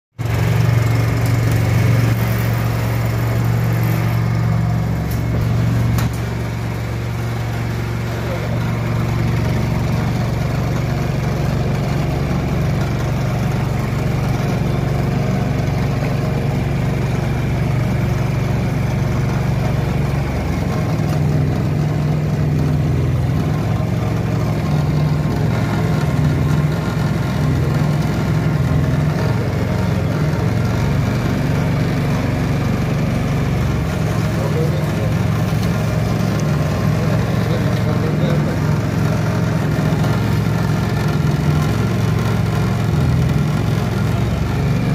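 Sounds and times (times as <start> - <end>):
engine driving crushing rollers: 0.2 - 44.9.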